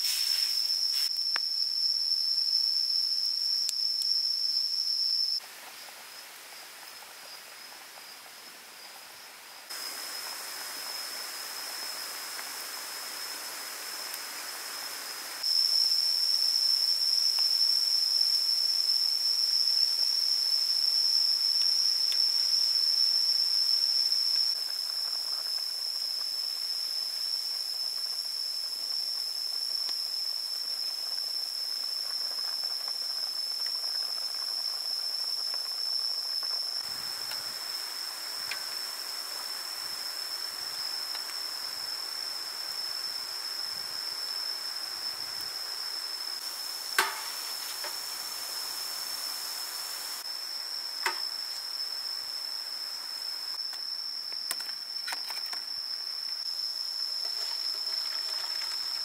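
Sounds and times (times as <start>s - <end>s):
soft hiss: 0.0s - 1.8s, 5.4s - 59.0s
high-pitched insect drone: 0.0s - 5.5s, 9.6s - 59.0s.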